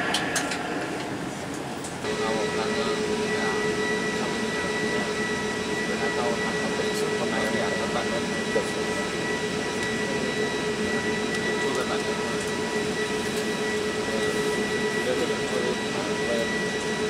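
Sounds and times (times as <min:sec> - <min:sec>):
jet engines rushing and humming: 0:00.0 - 0:17.0
steady high whine: 0:00.0 - 0:17.0.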